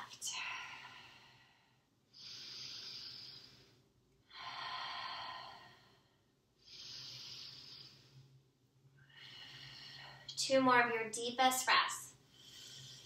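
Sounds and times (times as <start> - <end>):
woman breathing slowly: 0.0 - 10.4, 12.2 - 13.0.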